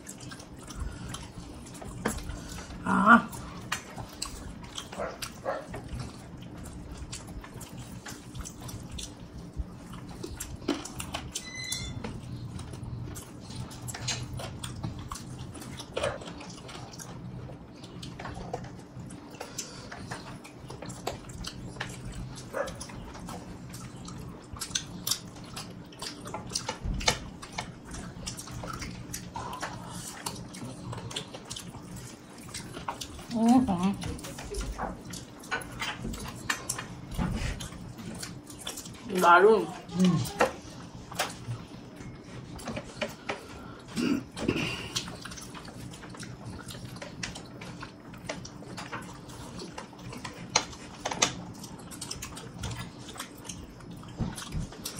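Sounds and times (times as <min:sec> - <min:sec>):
low steady hum: 0:00.0 - 0:54.9
wet chewing: 0:00.0 - 0:54.9.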